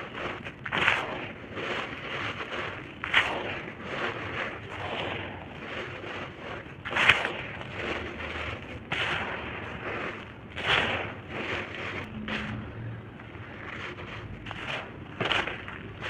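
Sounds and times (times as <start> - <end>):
gritty dirt crunching: 0.0 - 16.0.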